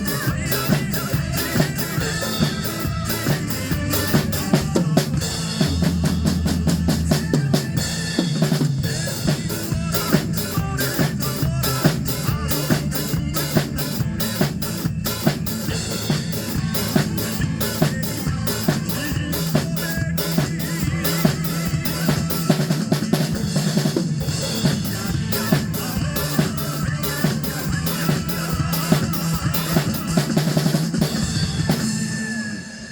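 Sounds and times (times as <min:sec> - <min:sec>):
trot song backing track: 0:00.0 - 0:32.4
drum kit playing fast beat: 0:00.0 - 0:32.5.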